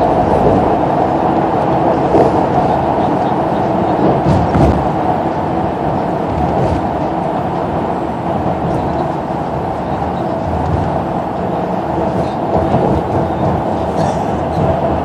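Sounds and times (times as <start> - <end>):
bus road and engine rumble: 0.0 - 15.0.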